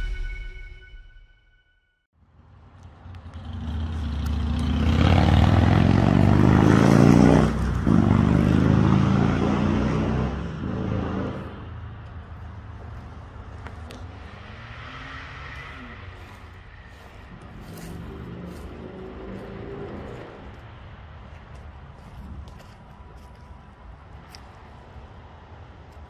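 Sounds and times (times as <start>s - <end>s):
vehicle passing: 2.4s - 25.9s.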